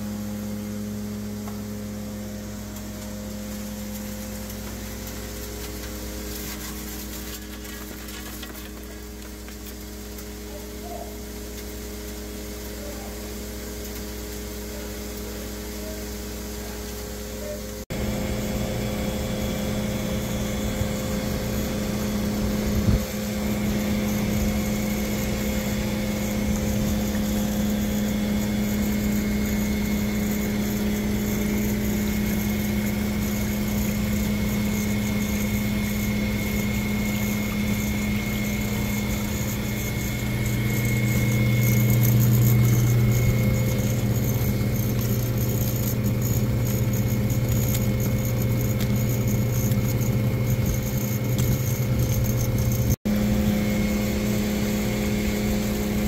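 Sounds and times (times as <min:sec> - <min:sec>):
continuous mechanical hum: 0:00.0 - 0:56.0.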